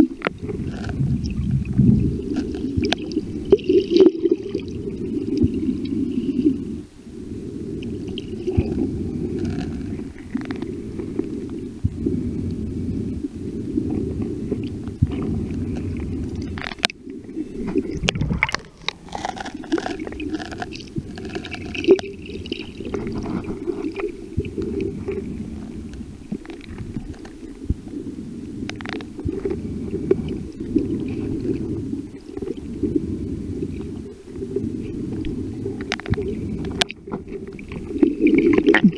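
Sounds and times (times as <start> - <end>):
faint clicks and crackles: 0.0 - 38.9
muffled underwater rumble: 0.0 - 38.9
water movement: 0.0 - 38.9.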